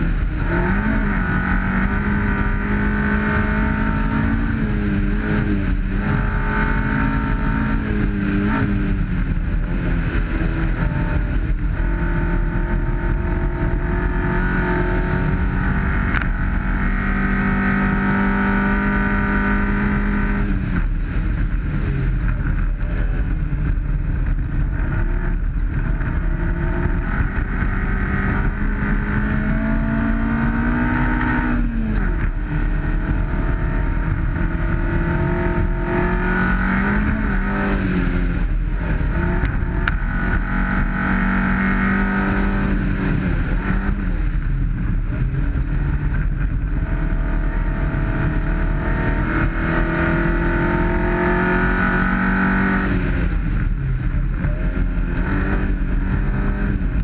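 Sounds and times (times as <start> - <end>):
gravel road noise: 0.0 - 57.0
rally car engine running hard: 0.0 - 57.0.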